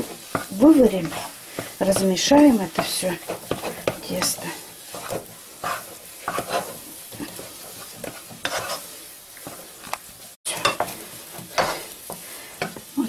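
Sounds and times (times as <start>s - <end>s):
wooden spoon scraping dough in pot: 0.0s - 13.0s.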